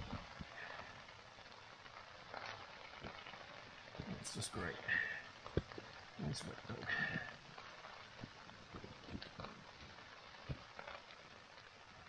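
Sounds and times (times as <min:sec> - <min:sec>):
rain pattering on tent: 0:00.0 - 0:12.0.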